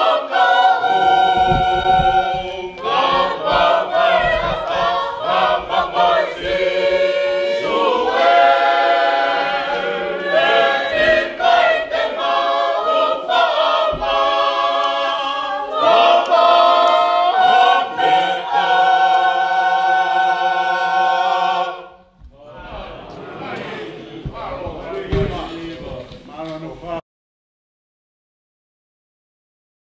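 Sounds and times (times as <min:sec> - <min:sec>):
congregation singing a hymn: 0:00.0 - 0:27.0.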